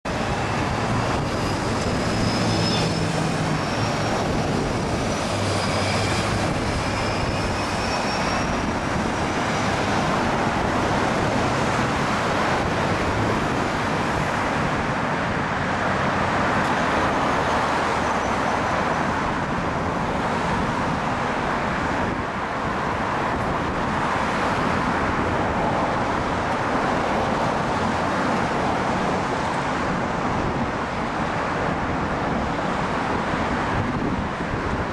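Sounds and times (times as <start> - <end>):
passing cars and trucks: 0.0 - 34.9.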